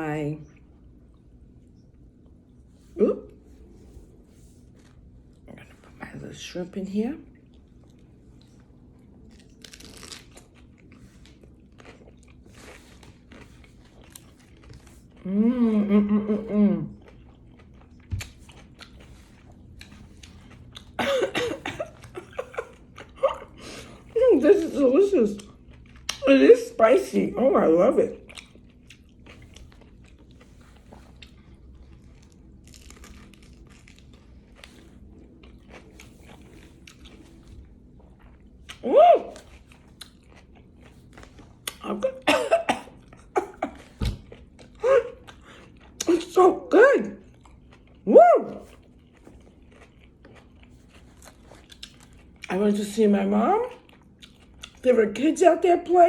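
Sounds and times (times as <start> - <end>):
person chewing with wet crunches: 0.1 - 6.2, 7.2 - 27.2, 27.8 - 54.9.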